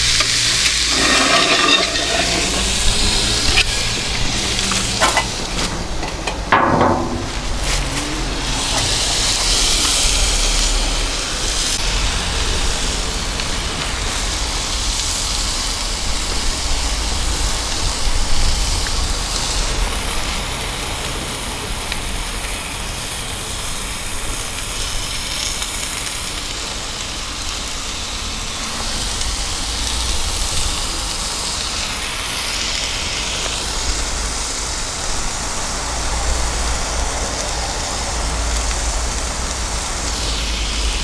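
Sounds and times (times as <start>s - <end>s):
burgers sizzling in a skillet: 0.0s - 6.3s, 7.2s - 41.0s
wood fire burning: 0.0s - 41.0s.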